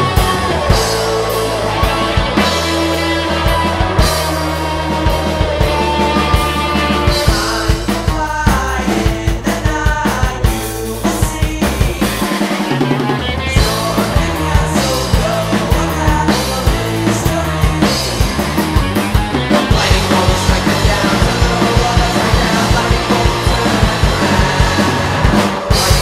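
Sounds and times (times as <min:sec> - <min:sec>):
drum kit driving hard: 0:00.0 - 0:26.0
rock band playing: 0:00.0 - 0:26.0.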